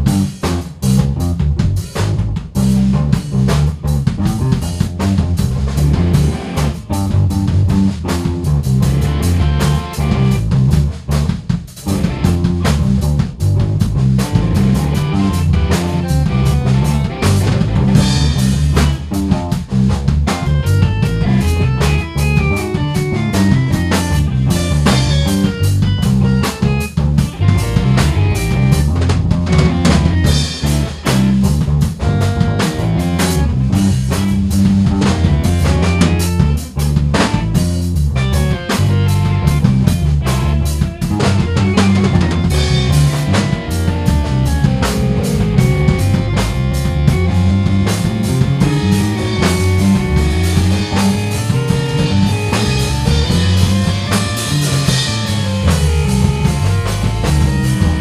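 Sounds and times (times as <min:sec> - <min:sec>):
drum kit: 0:00.0 - 0:58.0
instrumental rock music: 0:00.0 - 0:58.0.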